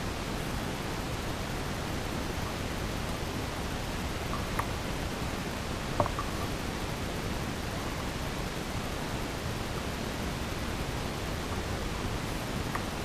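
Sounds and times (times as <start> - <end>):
cave ambience hiss: 0.0 - 13.0.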